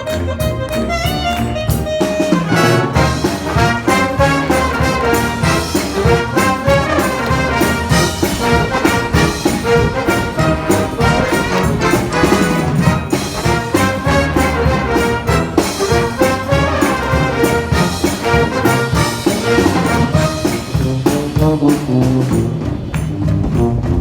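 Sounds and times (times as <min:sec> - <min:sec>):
steady drum beat: 0:00.0 - 0:24.0
trombones and trumpets: 0:00.0 - 0:24.0
wind band playing: 0:00.0 - 0:24.0.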